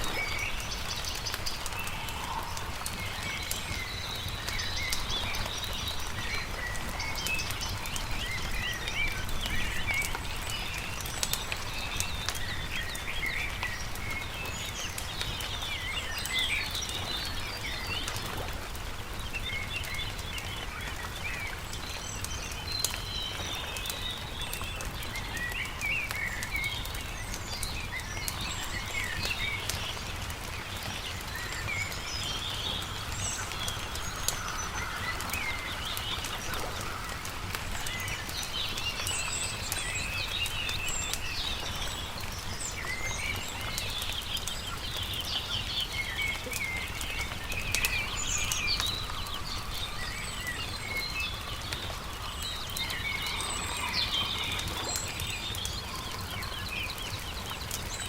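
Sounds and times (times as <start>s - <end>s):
campfire crackling and popping: 0.0s - 58.0s
small birds chirping: 0.0s - 58.0s.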